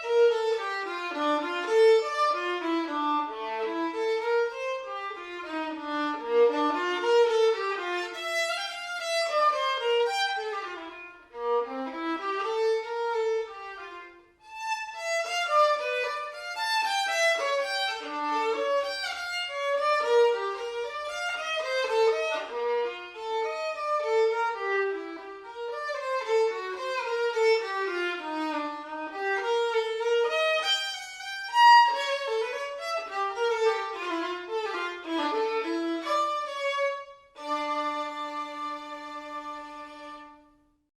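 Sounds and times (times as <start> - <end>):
solo violin melody: 0.0 - 40.9.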